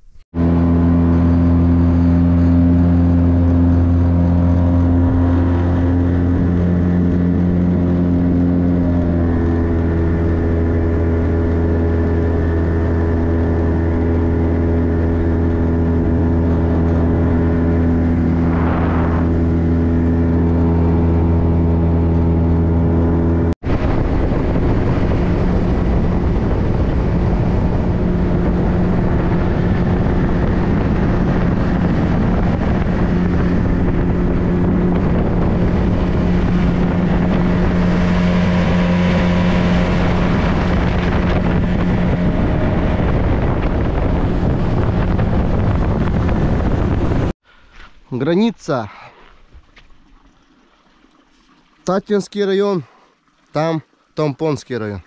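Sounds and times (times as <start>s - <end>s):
wind on microphone: 0.0s - 47.7s
engine running steadily: 0.0s - 47.8s.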